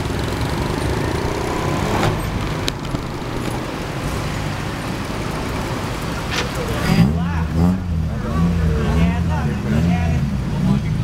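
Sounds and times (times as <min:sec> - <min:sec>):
car engine with loud exhaust: 0:00.0 - 0:11.0.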